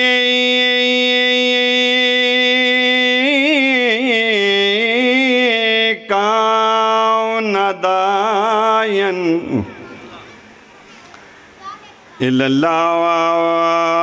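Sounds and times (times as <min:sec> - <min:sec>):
man chanting melodically: 0:00.0 - 0:10.6, 0:12.2 - 0:14.0.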